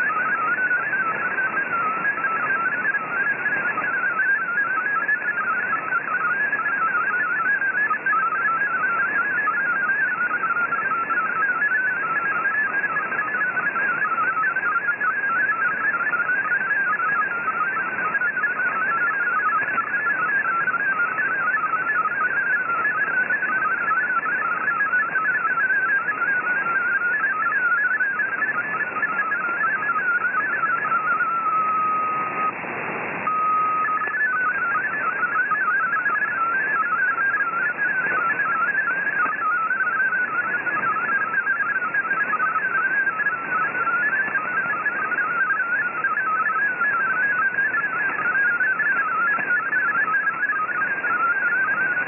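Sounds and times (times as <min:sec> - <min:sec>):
radio band hiss: 0:00.0 - 0:52.0.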